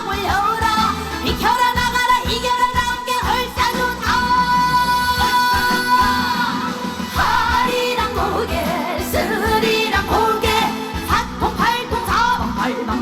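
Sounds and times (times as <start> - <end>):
band playing steady beat: 0.0 - 13.0
woman singing: 0.0 - 13.0.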